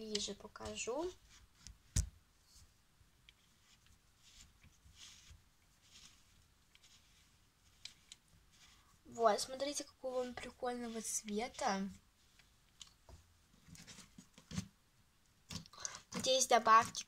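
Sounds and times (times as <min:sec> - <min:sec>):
soft rustling: 0:00.0 - 0:14.8.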